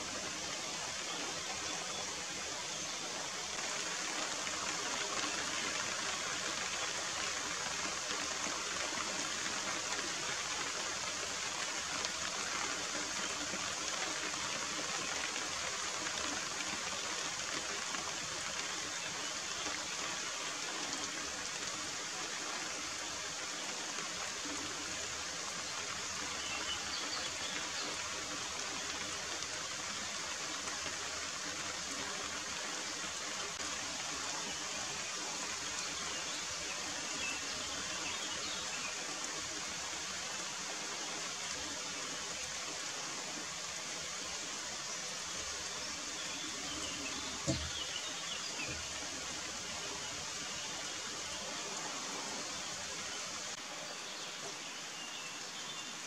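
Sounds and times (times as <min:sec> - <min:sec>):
rain falling on grass and leaves: 0:00.0 - 0:56.0.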